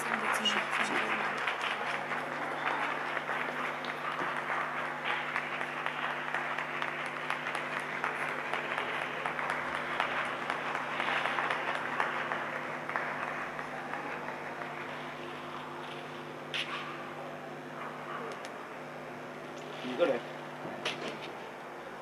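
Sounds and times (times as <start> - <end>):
crowd applause: 0.0 - 20.2.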